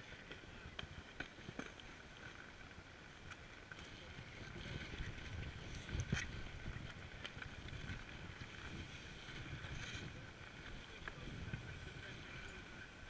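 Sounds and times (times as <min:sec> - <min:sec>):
snowboard sliding over snow: 0:00.0 - 0:13.0
wind rumbling on microphone: 0:00.0 - 0:13.0.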